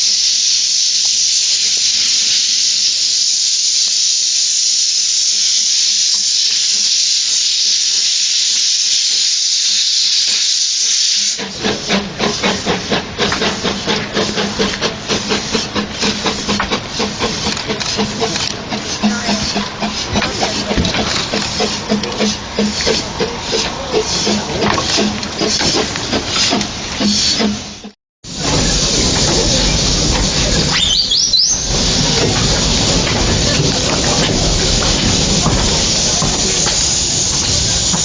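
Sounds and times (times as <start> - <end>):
steam locomotive hissing steam: 0.0 - 38.0.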